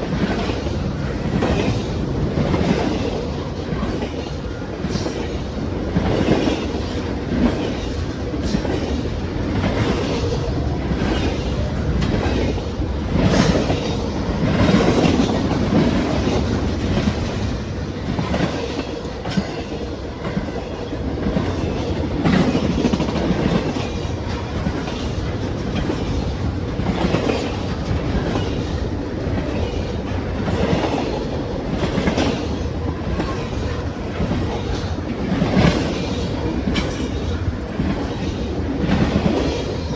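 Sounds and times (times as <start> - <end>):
freight train cars rumbling: 0.0 - 39.9
wheels clicking over rail joints: 0.0 - 39.9.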